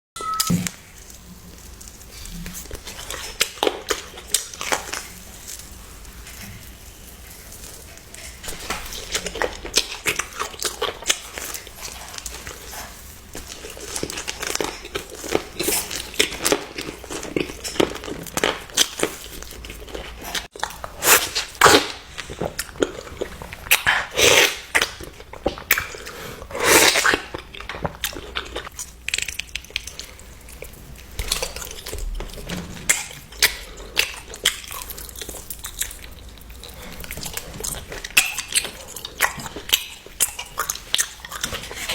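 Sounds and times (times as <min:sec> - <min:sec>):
person chewing crunchy food: 0:00.4 - 0:41.9.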